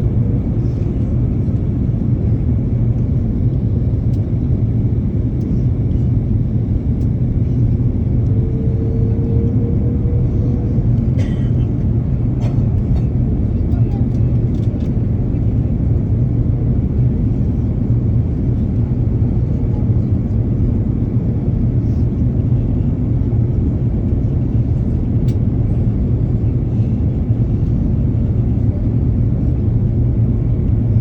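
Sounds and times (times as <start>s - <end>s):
airplane rumble: 0.0s - 31.0s.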